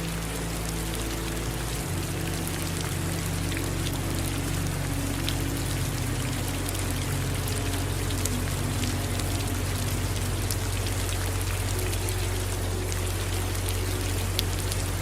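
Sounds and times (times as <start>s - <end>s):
constant low rumble: 0.0s - 15.0s
raindrops ticking on a surface: 0.0s - 15.0s.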